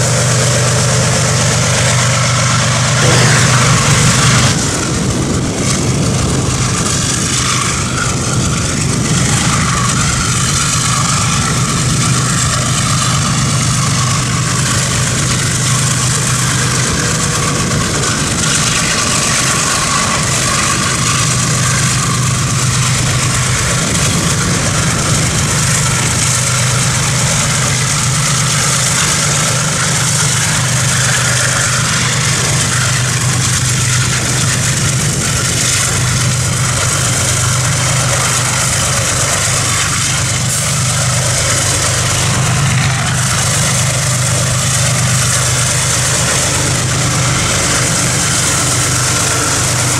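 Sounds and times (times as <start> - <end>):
road and wind noise: 0.0 - 49.9
vehicle engine drone: 0.0 - 49.9.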